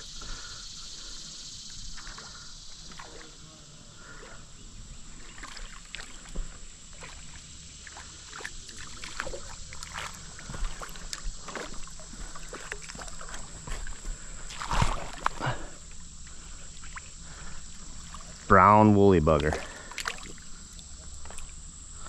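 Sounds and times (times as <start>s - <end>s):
river water splashing: 1.7s - 22.0s.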